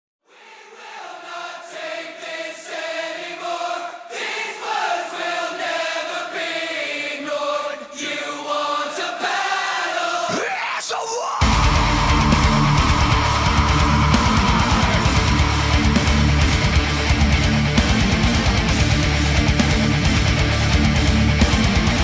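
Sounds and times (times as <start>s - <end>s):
choir singing held notes: 0.3s - 10.5s, 11.4s - 22.0s.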